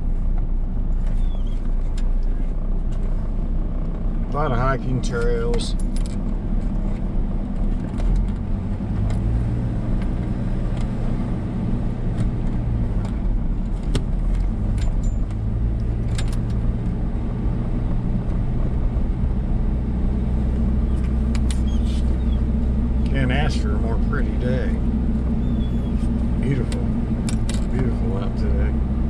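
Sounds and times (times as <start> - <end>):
car engine hum: 0.0 - 29.0.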